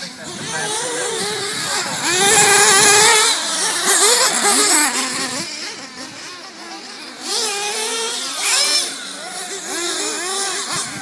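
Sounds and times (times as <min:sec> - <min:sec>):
toy race car engines whining: 0:00.0 - 0:11.0.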